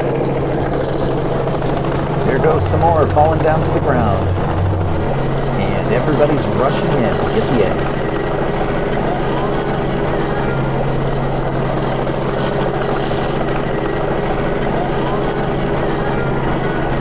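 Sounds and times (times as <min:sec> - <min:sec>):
helicopter rotor and engine drone: 0:00.0 - 0:17.0.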